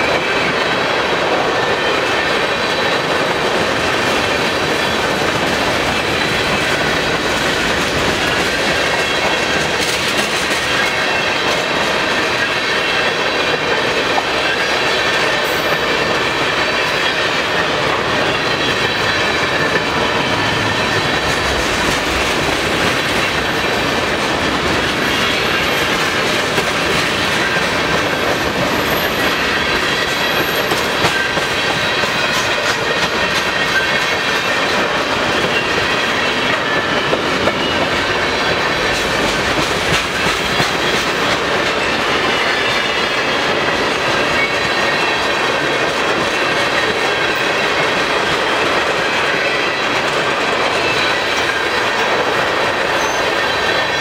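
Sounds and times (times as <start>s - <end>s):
steel train wheels rushing on rail: 0.0s - 54.0s.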